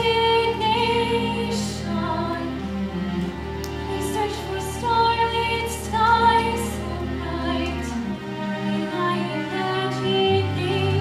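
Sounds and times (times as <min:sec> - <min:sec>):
woman singing: 0:00.0 - 0:02.6, 0:03.9 - 0:08.0, 0:08.6 - 0:11.0
keyboard accompaniment: 0:00.0 - 0:11.0.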